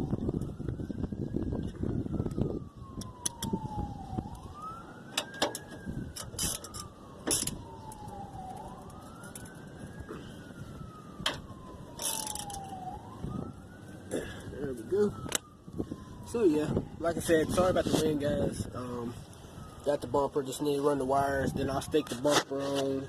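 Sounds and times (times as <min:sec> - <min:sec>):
distant emergency siren wailing: 0:00.0 - 0:23.0.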